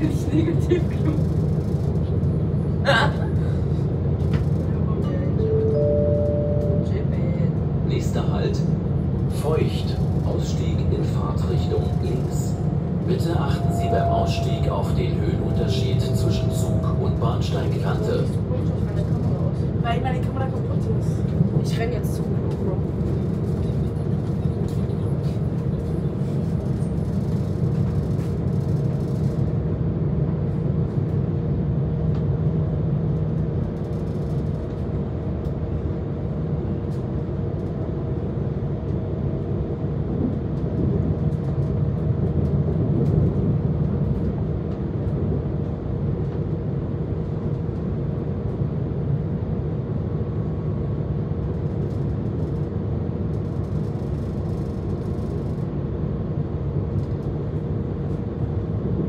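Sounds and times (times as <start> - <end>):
constant train hum: 0.0 - 59.0
train rolling rumble: 0.0 - 59.0.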